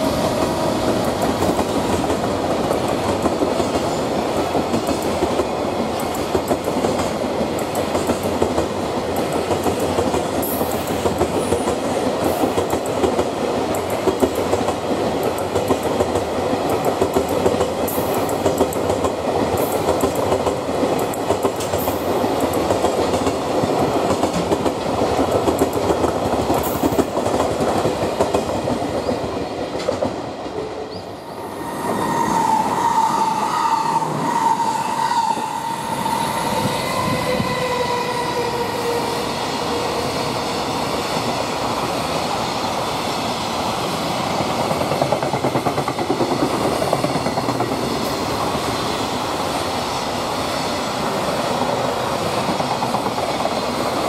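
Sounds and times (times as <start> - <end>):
freight train wheels clickety-clack: 0.0 - 54.0.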